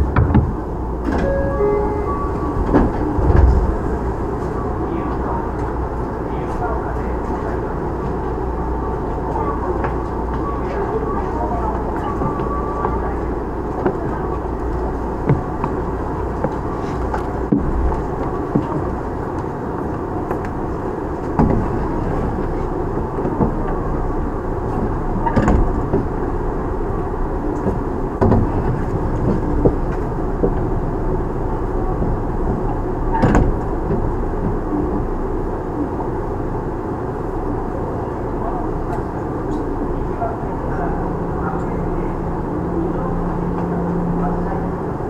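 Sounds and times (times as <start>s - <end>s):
rail joint clacks: 0.0s - 36.9s, 38.3s - 45.0s
train wheels rumbling on rail: 0.0s - 45.0s.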